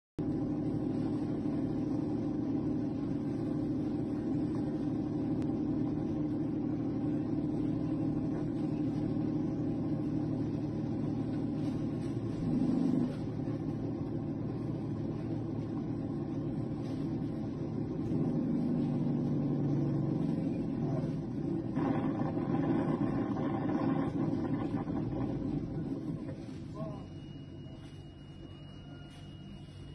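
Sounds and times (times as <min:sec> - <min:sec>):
truck engine droning: 0:00.2 - 0:29.9.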